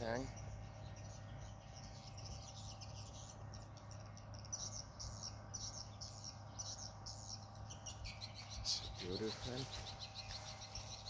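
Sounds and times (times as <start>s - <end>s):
birds chirping: 0.0s - 11.0s
faint low hum: 0.0s - 11.0s.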